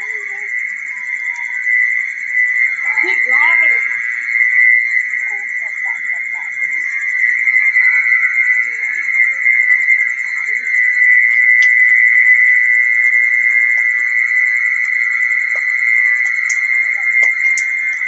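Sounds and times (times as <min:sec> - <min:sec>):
insect call from loudspeaker: 0:00.0 - 0:18.0.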